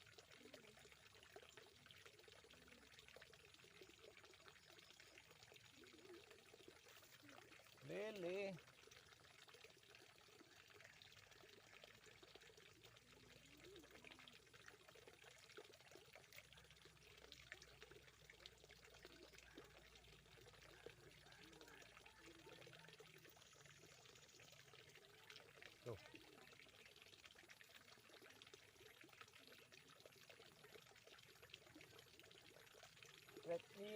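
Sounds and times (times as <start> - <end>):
trickle of running water: 0.0 - 33.9.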